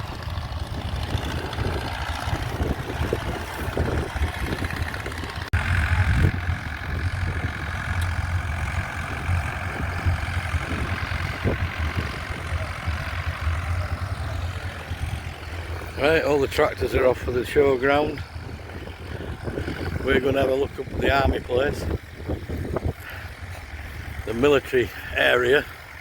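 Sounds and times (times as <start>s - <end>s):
tractor engines running: 0.0s - 26.0s.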